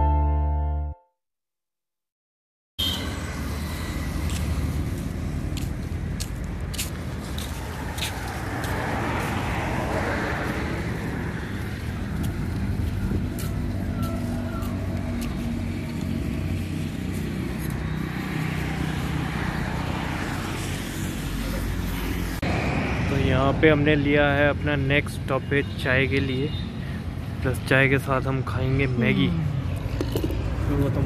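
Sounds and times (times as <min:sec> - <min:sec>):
highway traffic rumble: 0:02.8 - 0:31.0.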